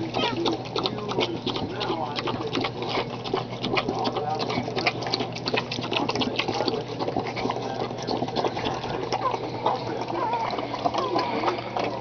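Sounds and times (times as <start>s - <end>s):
dog licking puppy: 0.0s - 12.0s.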